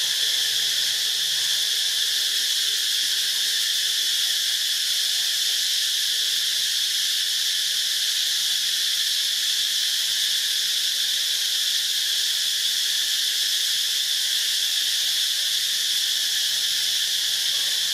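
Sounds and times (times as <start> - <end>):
insects chorus: 0.0 - 17.9.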